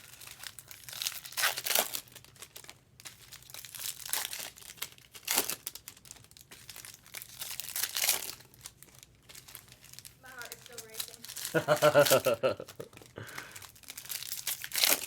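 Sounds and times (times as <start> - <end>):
foil wrappers crinkling: 0.0 - 15.0
loud foil crackles: 0.0 - 15.0.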